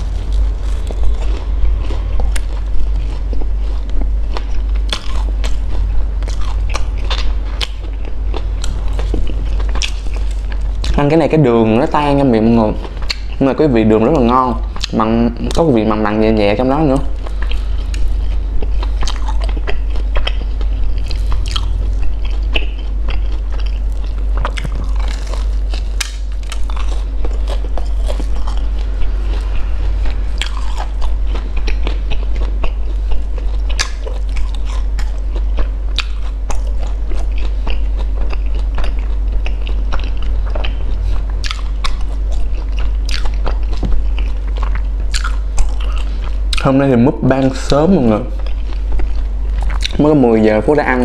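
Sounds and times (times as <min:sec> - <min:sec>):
crunchy biting and chewing: 0:00.0 - 0:51.0.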